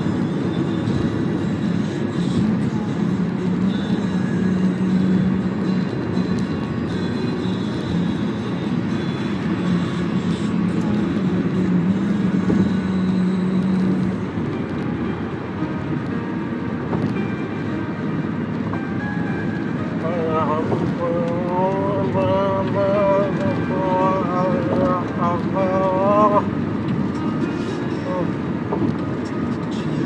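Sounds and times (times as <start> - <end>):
car engine driving: 0.0 - 30.0.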